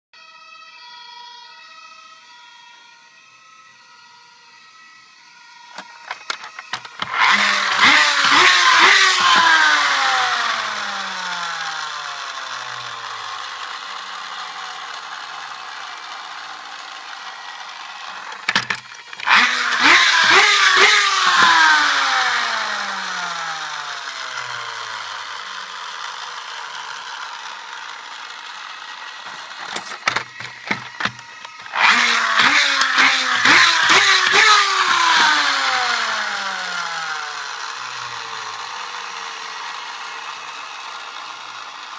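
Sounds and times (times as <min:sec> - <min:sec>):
toy friction motor whirring: 0:03.5 - 0:41.9
toy wheels clicking and rattling: 0:05.7 - 0:41.9.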